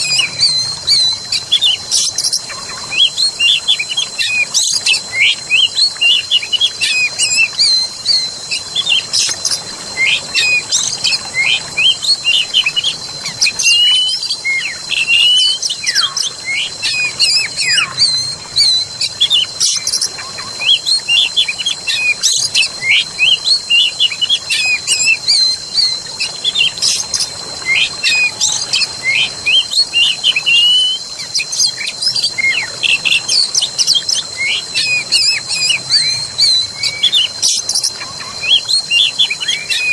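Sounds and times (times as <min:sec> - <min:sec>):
birds chirping and trilling: 0:00.0 - 0:39.9
faint running water: 0:00.0 - 0:39.9
steady high-pitched tone: 0:00.0 - 0:39.9.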